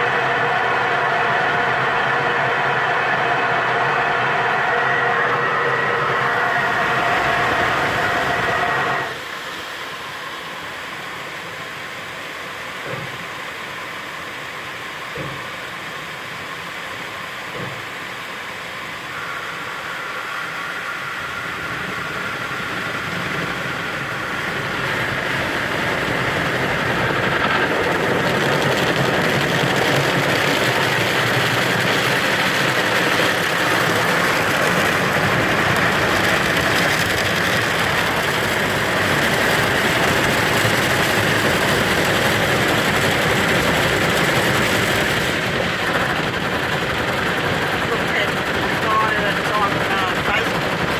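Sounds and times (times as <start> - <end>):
car wash water spray and machinery: 0.0 - 50.9.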